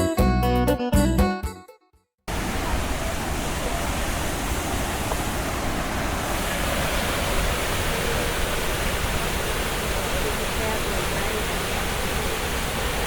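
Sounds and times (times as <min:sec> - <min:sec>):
waterfall roaring: 0:02.3 - 0:13.0.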